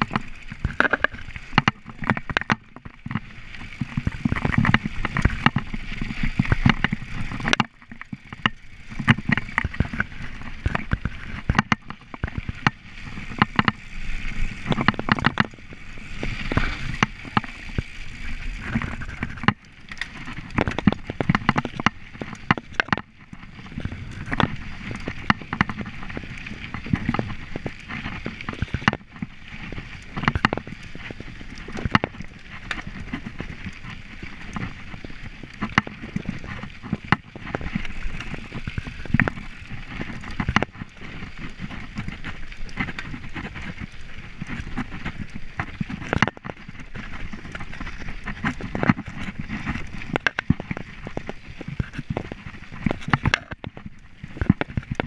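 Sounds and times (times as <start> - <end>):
bike rattling and knocking: 0.0 - 55.0
bike tyres rushing on dirt: 0.0 - 55.0.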